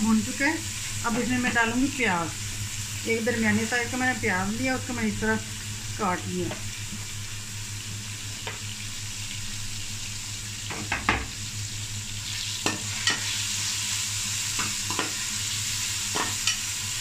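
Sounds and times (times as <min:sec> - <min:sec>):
onions sizzling in pot: 0:00.0 - 0:17.0.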